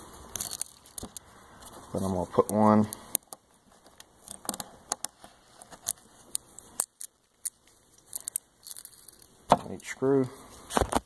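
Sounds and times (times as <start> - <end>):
metal washers and screws clinking: 0.3 - 10.4.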